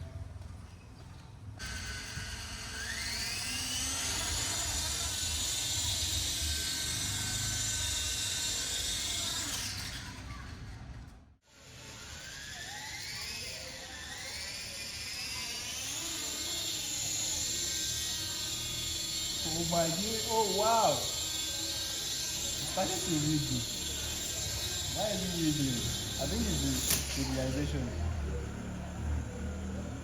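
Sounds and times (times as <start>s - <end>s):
rc helicopter motor whine: 1.6s - 30.0s.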